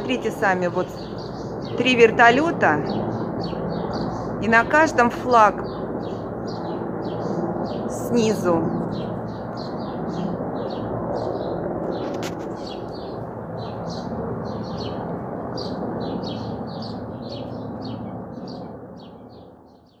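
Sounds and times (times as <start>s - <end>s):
helicopters rumbling overhead: 0.0s - 20.0s
small bird chirping: 0.8s - 4.6s, 5.6s - 20.0s.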